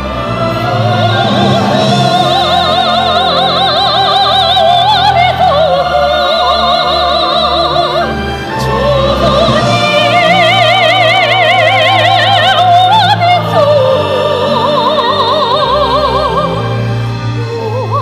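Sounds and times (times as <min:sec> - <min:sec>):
choir singing: 0:00.0 - 0:18.0
soprano singing with vibrato: 0:00.0 - 0:18.0
symphony orchestra: 0:00.0 - 0:18.0.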